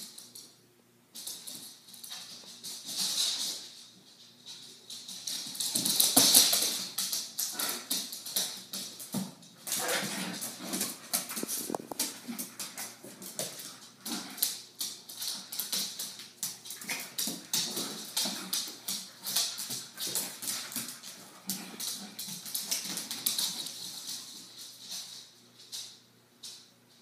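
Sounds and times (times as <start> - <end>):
dogs' low play noises: 0.0 - 26.9
dog claws clicking on floor: 0.0 - 27.0.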